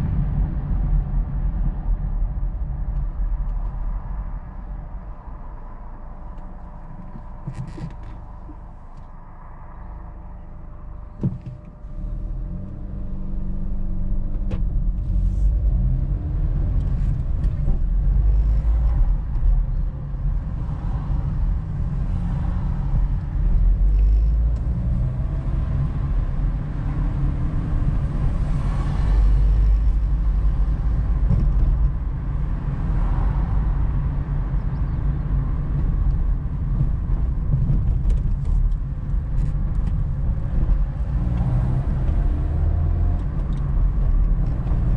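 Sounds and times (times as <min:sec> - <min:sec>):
car engine and road noise: 0:00.0 - 0:44.9.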